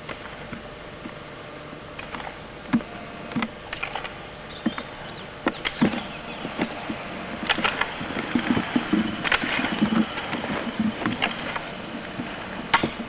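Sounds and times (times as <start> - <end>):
roller skis rolling on rough surface: 0.0 - 13.0
sharp clicks and knocks: 2.0 - 13.0.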